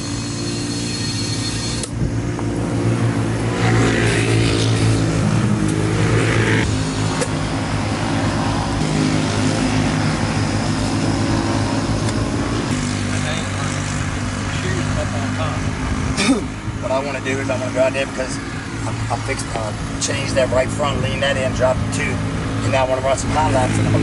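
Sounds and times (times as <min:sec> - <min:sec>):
lawn mower engines running: 0:00.0 - 0:24.0.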